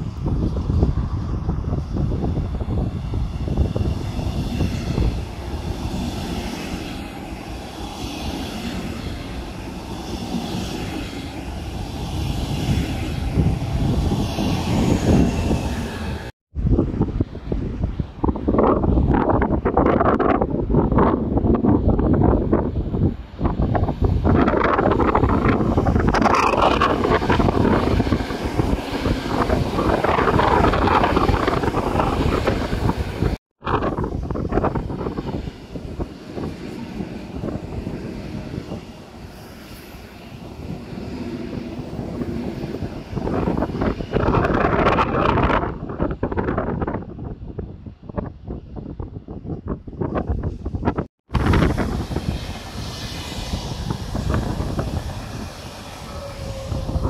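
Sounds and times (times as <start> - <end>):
train rumbling past: 0.0 - 57.0
wind buffeting microphone: 0.0 - 57.0.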